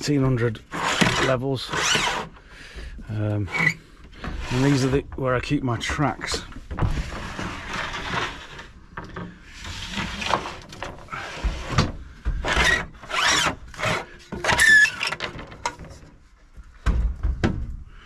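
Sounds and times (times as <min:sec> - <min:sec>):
metal rails scraping and sliding: 0:00.0 - 0:02.4, 0:03.1 - 0:16.1.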